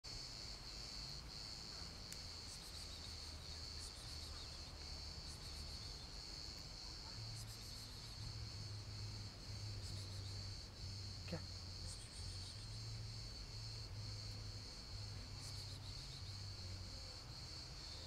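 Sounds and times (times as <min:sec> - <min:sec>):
high-pitched insect trill: 0:00.1 - 0:18.0.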